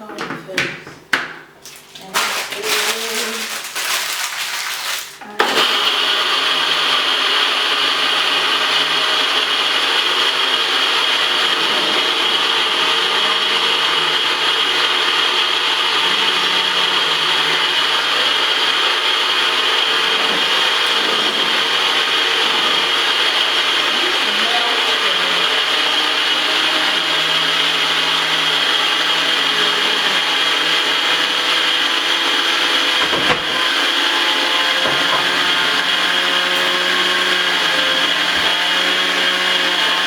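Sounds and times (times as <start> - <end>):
blender grinding: 1.6 - 40.0.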